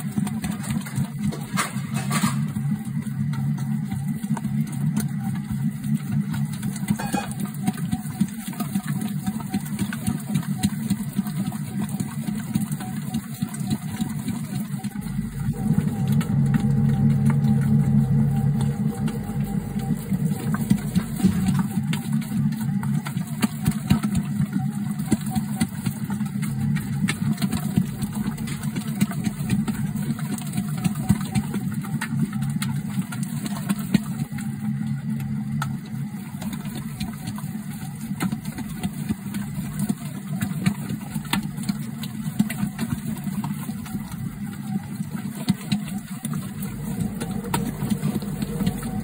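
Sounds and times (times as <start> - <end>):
dough mixer motor hum: 0.0 - 49.0.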